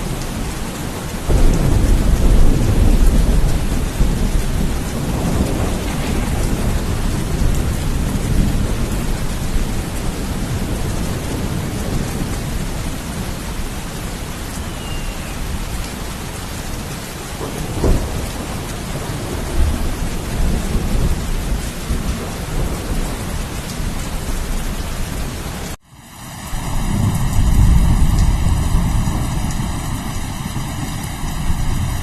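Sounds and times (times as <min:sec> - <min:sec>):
rolling thunder: 0:00.0 - 0:25.8, 0:26.6 - 0:32.0
heavy rain: 0:00.0 - 0:32.0.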